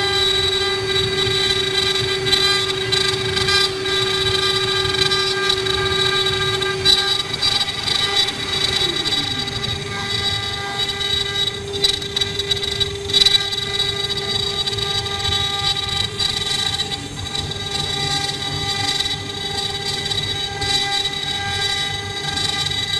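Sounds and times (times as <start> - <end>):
router whine: 0.0 - 22.9
wood cutting noise: 0.0 - 22.9.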